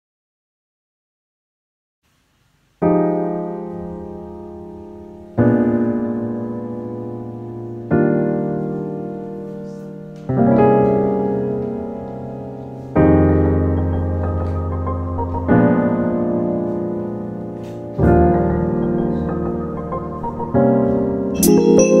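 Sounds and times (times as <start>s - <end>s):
slow piano chords: 2.8s - 22.0s.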